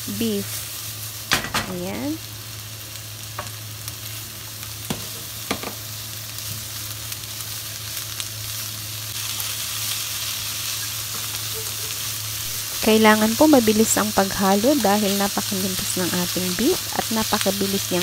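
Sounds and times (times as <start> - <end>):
beef and onions sizzling in pan: 0.0 - 18.0.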